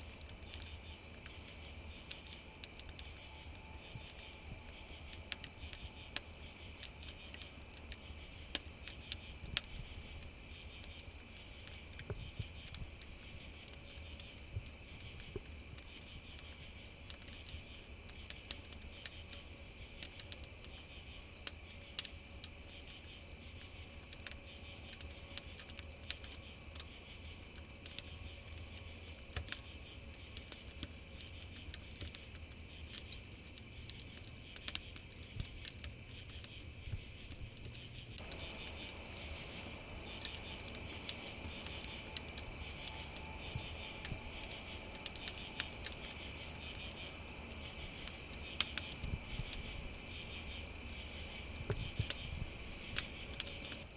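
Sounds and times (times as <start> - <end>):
campfire crackling: 0.0 - 53.9
crickets trilling: 0.0 - 53.9.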